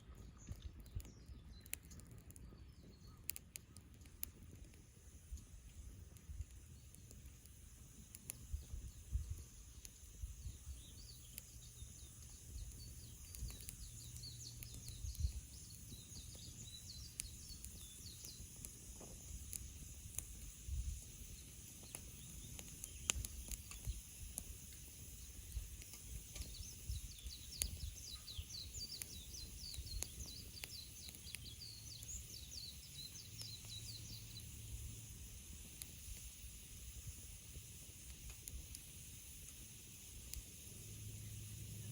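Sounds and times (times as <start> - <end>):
campfire crackling and popping: 0.0 - 41.9
small birds twittering: 0.0 - 41.9.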